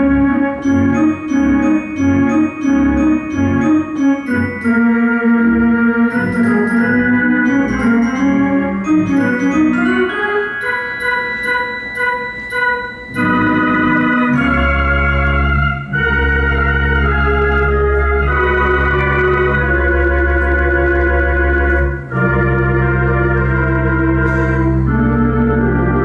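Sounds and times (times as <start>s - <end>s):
theatre organ playing: 0.0s - 26.0s.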